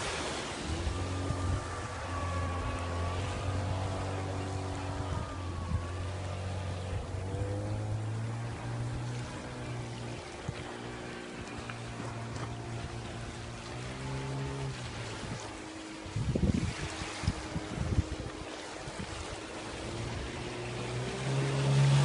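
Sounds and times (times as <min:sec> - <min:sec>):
outboard motor humming: 0:00.0 - 0:22.0.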